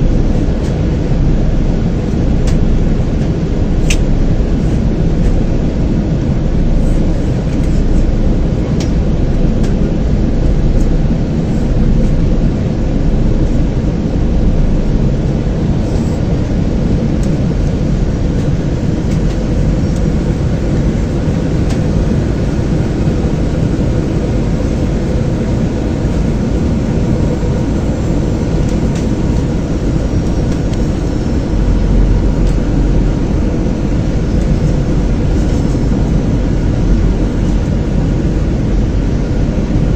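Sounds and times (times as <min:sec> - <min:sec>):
deep rumble: 0:00.0 - 0:39.9
jet engines and airflow rushing: 0:00.0 - 0:39.9.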